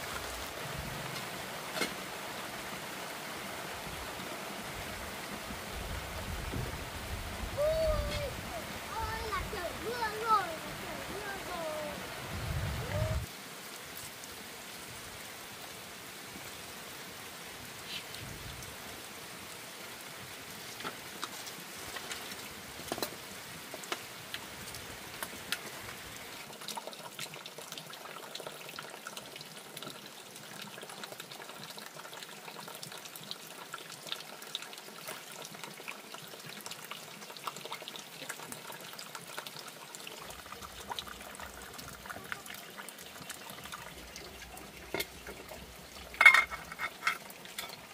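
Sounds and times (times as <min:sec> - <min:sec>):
water trickling and splashing: 0:00.0 - 0:47.9.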